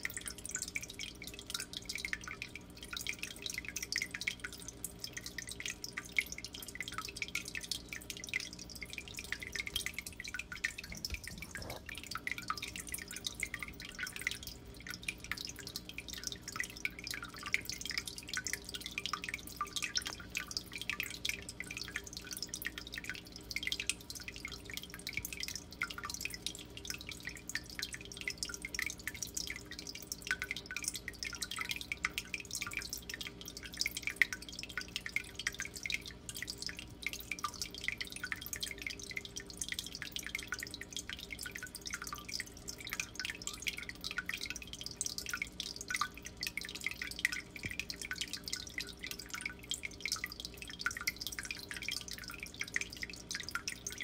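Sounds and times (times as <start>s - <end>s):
faint steady hum: 0.0s - 54.0s
water dripping into aquarium: 0.0s - 54.0s.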